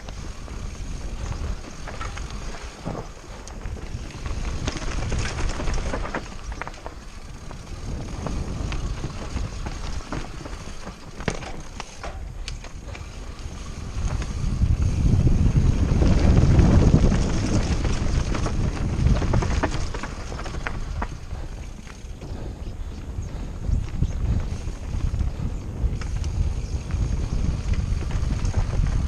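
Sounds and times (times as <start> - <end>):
bike rattling over rough ground: 0.0 - 29.0
wind buffeting microphone: 0.0 - 29.0.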